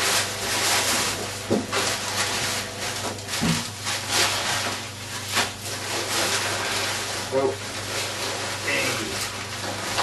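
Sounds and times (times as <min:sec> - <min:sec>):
wrapper crinkling: 0:00.0 - 0:10.0.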